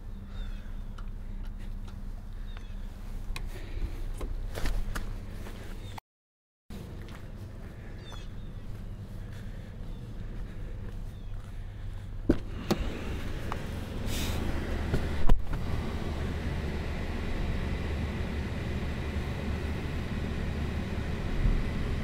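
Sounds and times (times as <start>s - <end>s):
engine running steadily: 0.0s - 6.0s, 6.7s - 22.0s.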